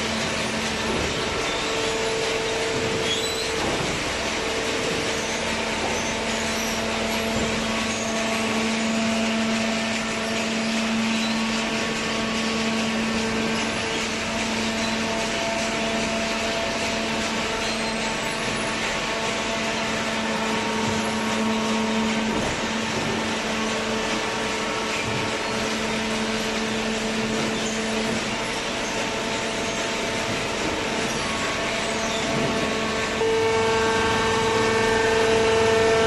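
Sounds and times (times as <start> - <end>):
baling machine motor and pump hum: 0.0 - 36.0.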